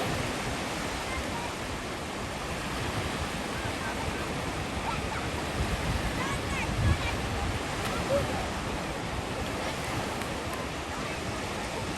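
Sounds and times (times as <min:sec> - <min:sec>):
sea waves washing on shore: 0:00.0 - 0:11.9.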